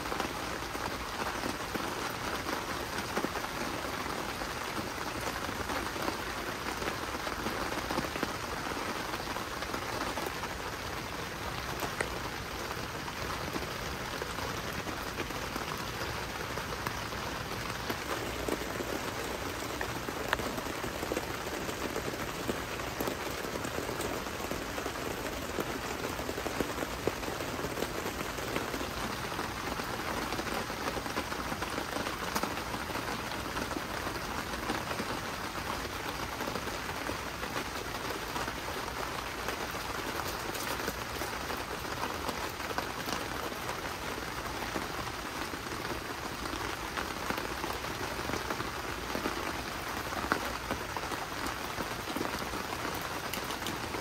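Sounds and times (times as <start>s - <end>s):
rain falling on a tent: 0.0s - 54.0s.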